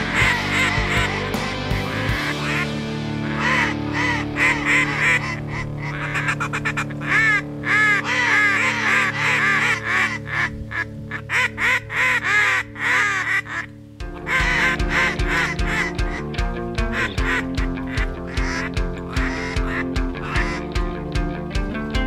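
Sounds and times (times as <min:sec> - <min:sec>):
duck quacking: 0:00.0 - 0:20.9
background music: 0:00.0 - 0:22.0.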